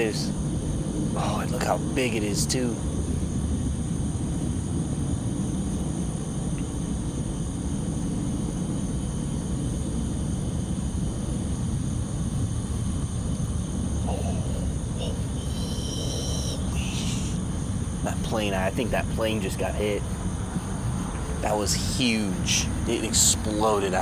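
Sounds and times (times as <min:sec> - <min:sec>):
shrill insect chorus: 0:00.0 - 0:24.0.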